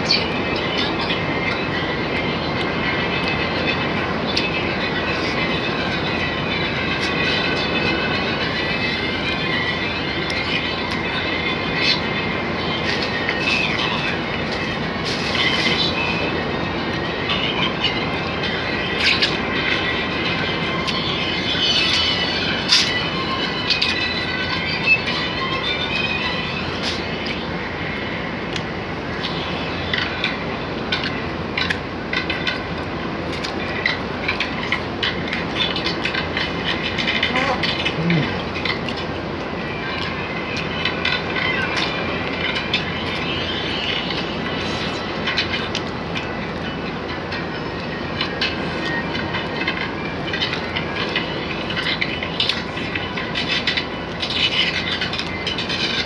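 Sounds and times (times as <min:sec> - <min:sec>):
steady background rush: 0:00.0 - 0:56.0.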